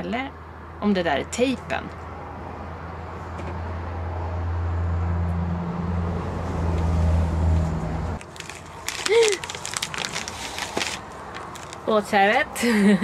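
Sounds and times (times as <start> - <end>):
vehicle engine humming: 1.5 - 12.3.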